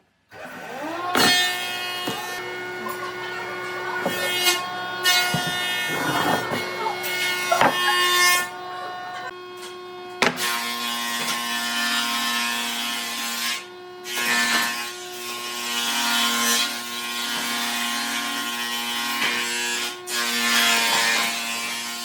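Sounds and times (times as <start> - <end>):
power tool grinding wood: 0.3 - 22.0.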